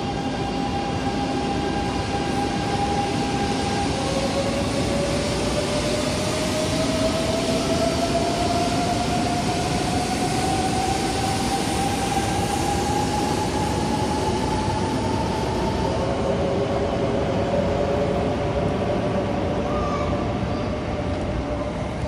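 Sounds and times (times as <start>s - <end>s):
train running and wheel noise: 0.0s - 22.0s.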